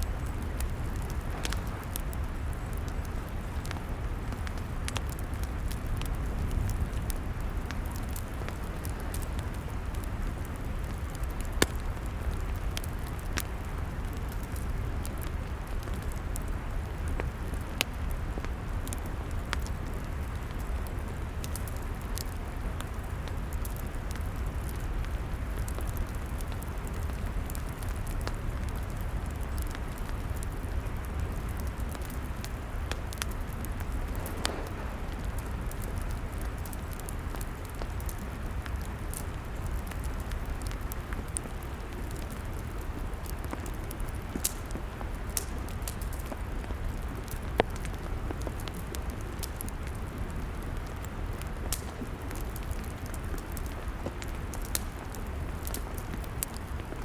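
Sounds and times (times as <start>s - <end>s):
log fire crackling: 0.0s - 57.0s.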